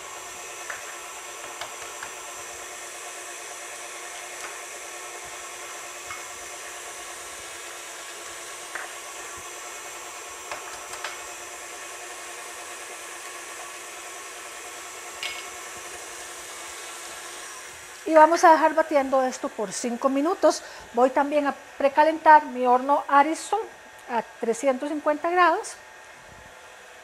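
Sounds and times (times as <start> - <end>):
stand mixer beating batter: 0.0 - 22.4.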